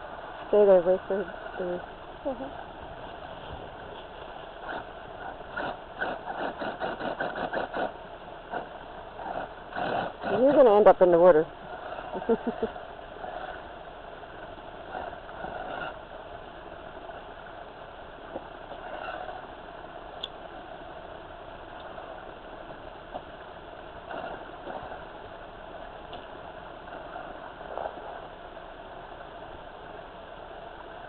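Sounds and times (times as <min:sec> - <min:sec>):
electric motor and gearbox whirring: 0:00.0 - 0:31.0.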